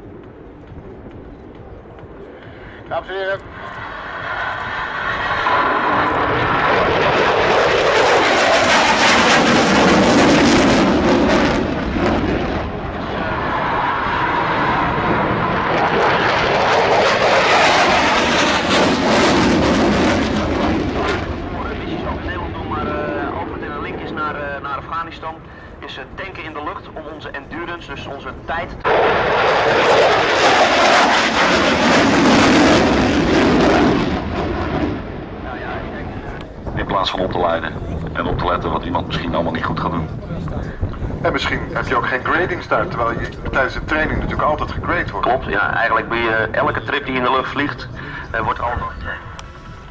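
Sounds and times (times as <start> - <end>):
jet aircraft flying past: 0.0 - 49.9.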